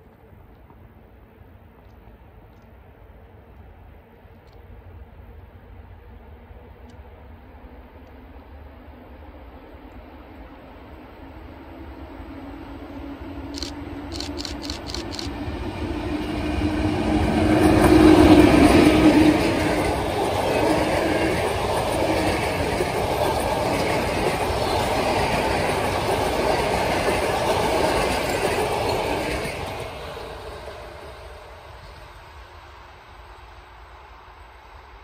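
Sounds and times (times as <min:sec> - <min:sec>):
electric locomotive humming: 0:00.0 - 0:35.0
wheel-on-rail noise: 0:00.0 - 0:35.0.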